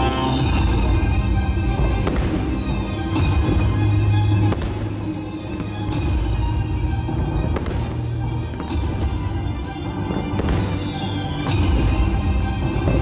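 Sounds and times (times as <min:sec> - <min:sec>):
music: 0:00.0 - 0:13.0
firework crackling: 0:00.1 - 0:13.0.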